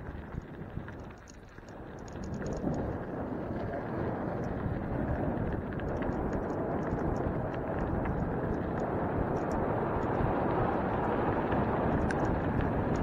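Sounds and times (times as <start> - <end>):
small stones ticking: 0.0 - 13.0
wheels rolling over gravel: 0.0 - 13.0
wind on microphone: 0.0 - 13.0.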